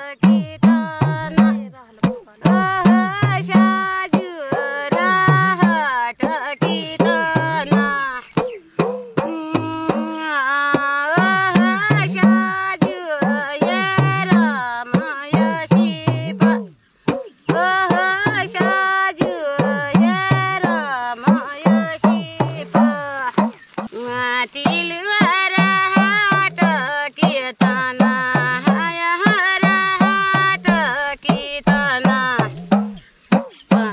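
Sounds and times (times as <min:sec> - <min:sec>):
hand drum strokes: 0:00.0 - 0:33.9
woman singing folk song: 0:00.0 - 0:33.9.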